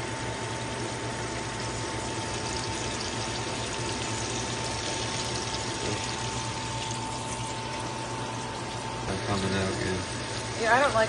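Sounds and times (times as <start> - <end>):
thin steady whine: 0.0 - 11.0
scallops sizzling in a frying pan: 1.6 - 11.0.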